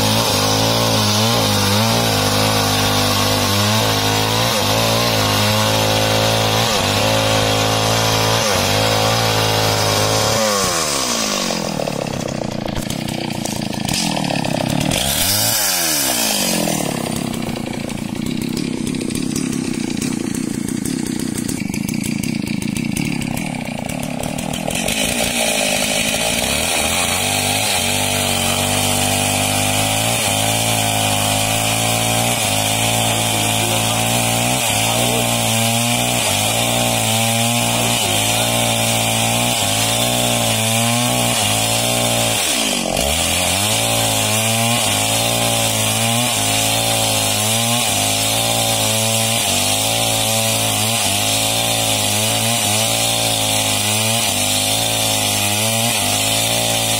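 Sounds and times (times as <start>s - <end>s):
chainsaw ripping a log: 0.0s - 56.9s.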